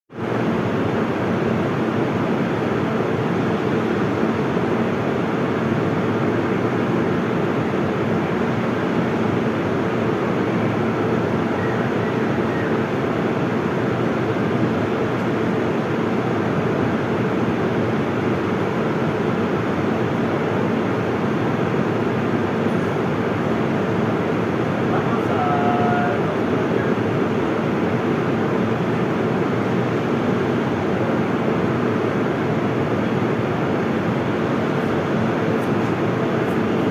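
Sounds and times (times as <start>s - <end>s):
metro train rumbling: 0.1s - 36.9s
faint steady hums: 0.2s - 36.9s.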